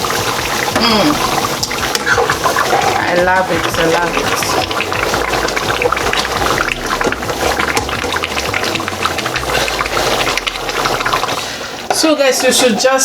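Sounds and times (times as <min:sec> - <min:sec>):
stew bubbling in a pot: 0:00.0 - 0:13.0.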